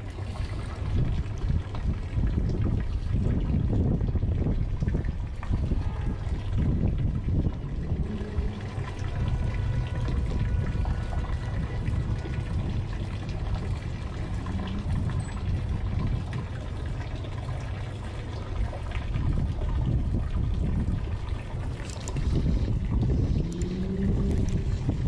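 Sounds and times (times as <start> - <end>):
low rumble: 0.0 - 25.0
water lapping against boat hulls: 0.0 - 25.0.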